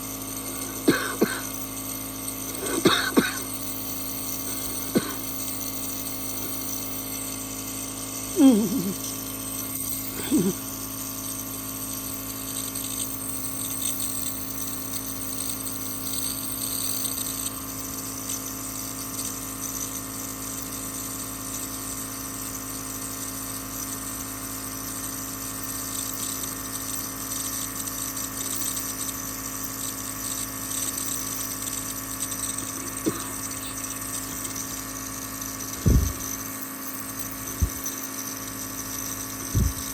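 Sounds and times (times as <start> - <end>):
electric motor hum: 0.0 - 39.9.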